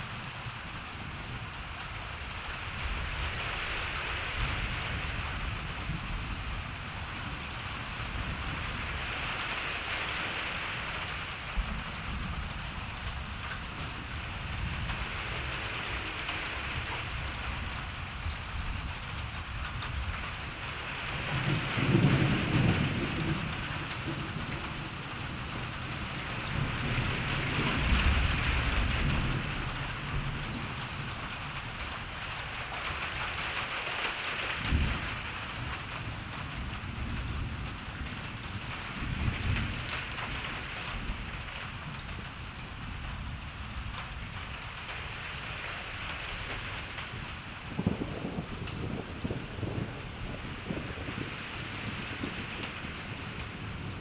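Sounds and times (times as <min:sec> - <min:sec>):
steady rain falling: 0:00.0 - 0:54.0
thunder rumbling: 0:00.0 - 0:54.0.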